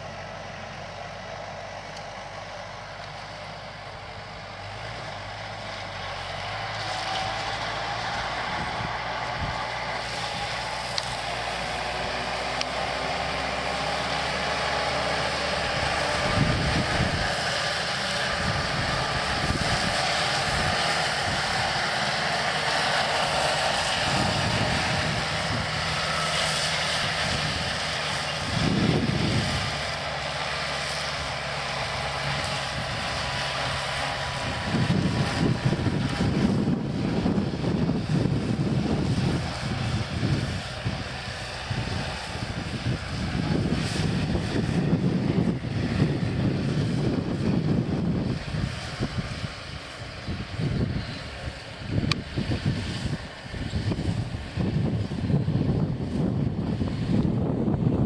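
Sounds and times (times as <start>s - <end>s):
drum mower cutting hay: 0.0s - 58.0s
tractor diesel engine: 0.0s - 58.0s.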